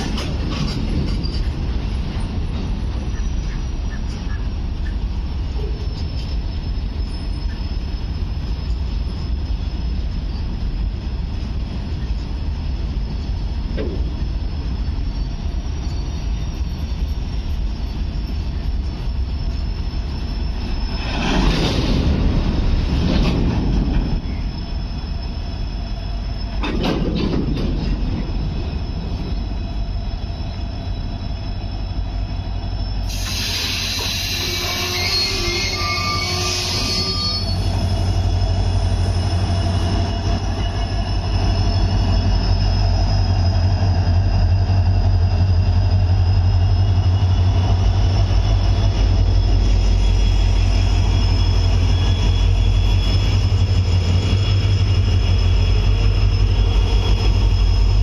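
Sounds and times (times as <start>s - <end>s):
high wheel squeal: 0.0s - 27.0s, 27.9s - 58.0s
freight train rumbling: 0.0s - 58.0s.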